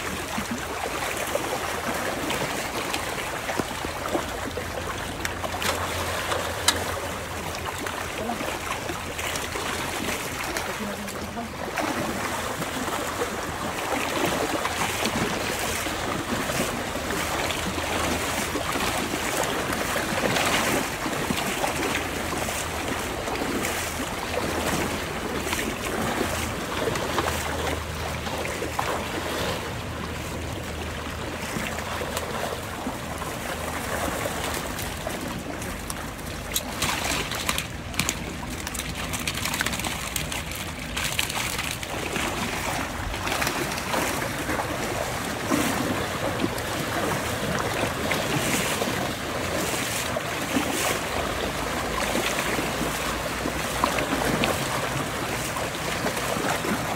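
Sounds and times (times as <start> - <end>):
boots sloshing through water: 0.0 - 56.9
stream rushing: 0.0 - 56.9.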